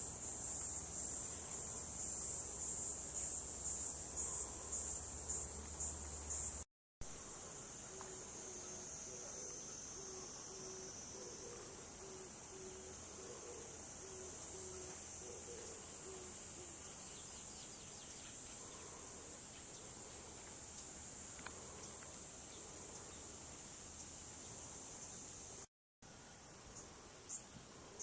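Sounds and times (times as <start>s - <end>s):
insects chorus: 0.0s - 25.7s.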